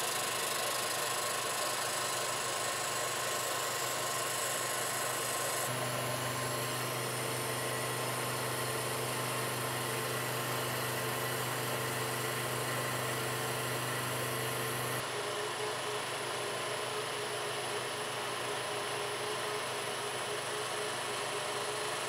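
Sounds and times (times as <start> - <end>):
milling machine humming: 0.0 - 22.0.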